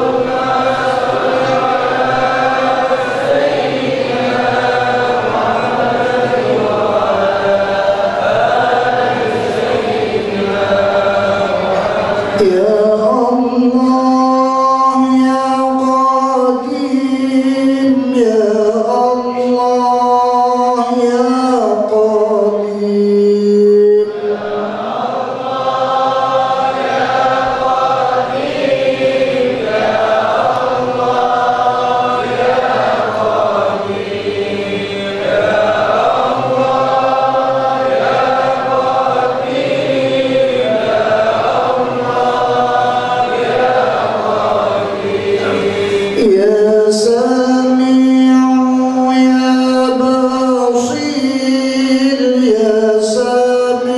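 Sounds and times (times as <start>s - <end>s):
men chanting over a microphone: 0.0s - 53.9s
lead male voice chanting: 4.4s - 53.9s.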